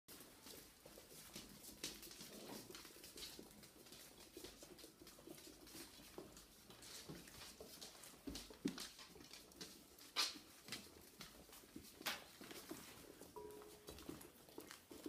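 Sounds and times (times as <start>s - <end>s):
puppy paws tapping on wooden floor: 0.1s - 15.0s.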